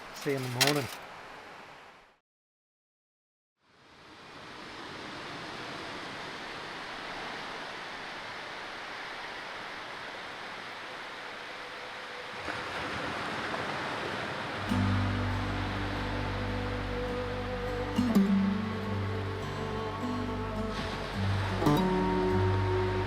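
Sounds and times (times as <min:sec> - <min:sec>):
ocean surf washing on beach: 0:00.0 - 0:01.9, 0:04.0 - 0:23.0.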